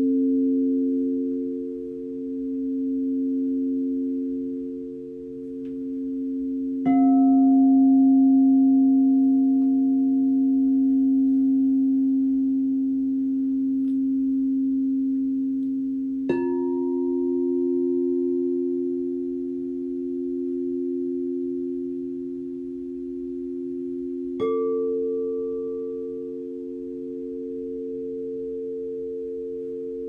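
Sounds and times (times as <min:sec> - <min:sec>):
singing bowl struck: 0:00.0 - 0:30.0
singing bowls ringing: 0:00.0 - 0:30.0.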